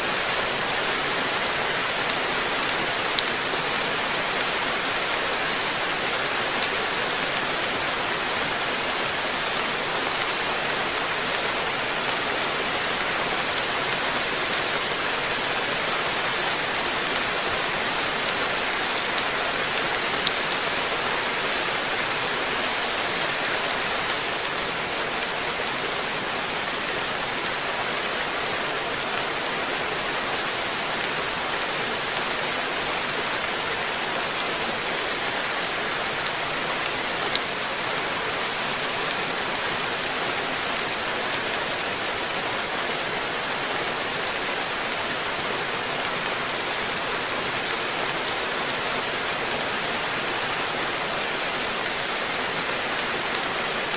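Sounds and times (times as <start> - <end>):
rain falling on pond: 0.0 - 53.9.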